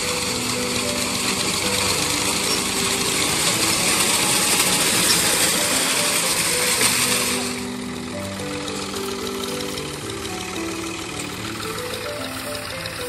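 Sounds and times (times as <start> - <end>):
reaper engine and cutter noise: 0.0 - 13.0.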